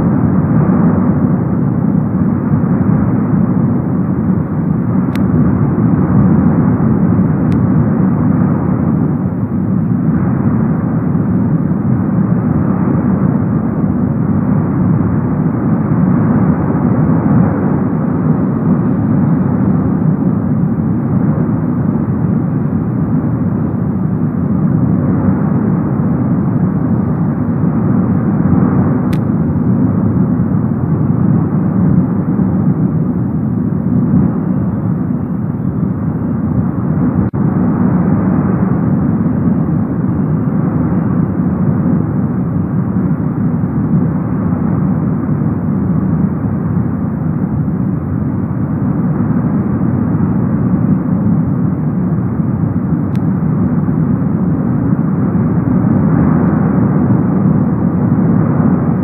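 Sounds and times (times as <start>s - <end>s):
volcanic vent rushing: 0.0s - 59.0s.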